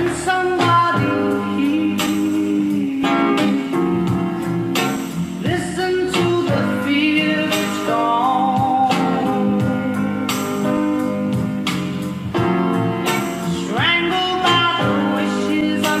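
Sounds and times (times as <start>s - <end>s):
person singing: 0.0s - 4.5s, 5.4s - 11.0s, 13.3s - 16.0s
guitar playing: 0.0s - 16.0s.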